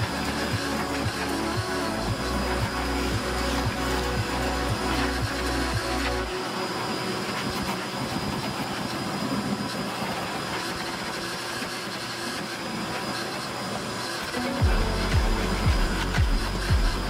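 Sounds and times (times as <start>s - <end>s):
shop vacuum running: 0.0s - 17.0s.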